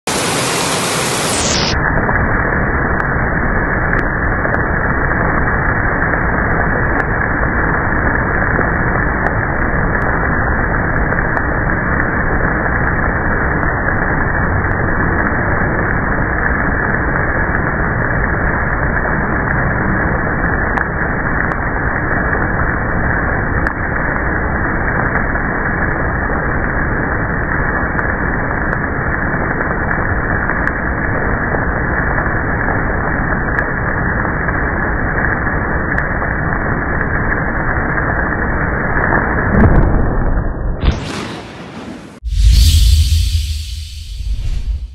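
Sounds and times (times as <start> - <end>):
heavy rain pouring: 0.0 - 39.4.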